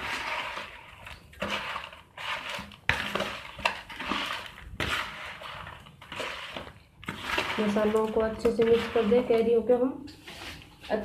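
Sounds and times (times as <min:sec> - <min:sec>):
spoon scraping in plastic bowl: 0:00.0 - 0:11.0.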